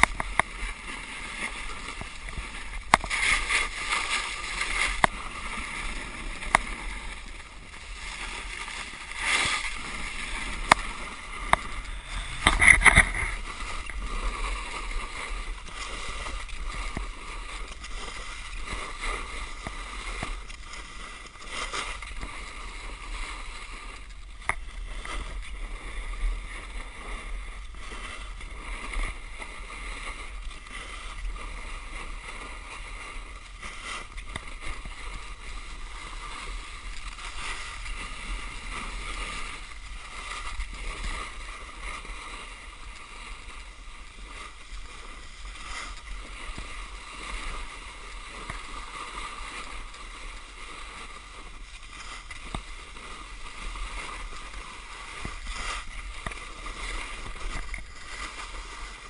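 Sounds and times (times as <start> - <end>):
snowboard scraping over snow: 0.0 - 59.0.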